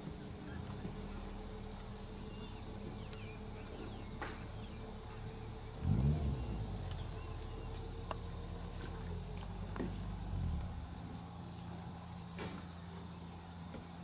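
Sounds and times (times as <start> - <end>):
car engine idling and revving: 0.4 - 12.4.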